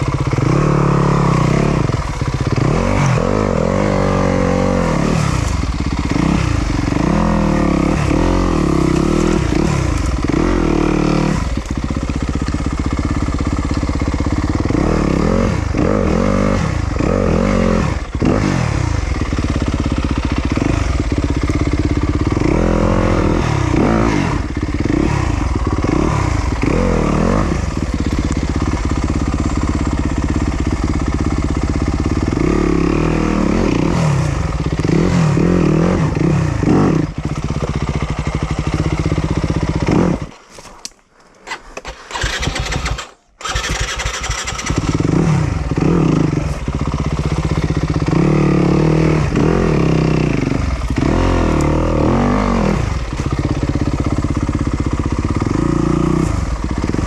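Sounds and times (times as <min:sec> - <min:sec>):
dirt bike engine revving: 0:00.0 - 0:40.5, 0:41.5 - 0:57.0.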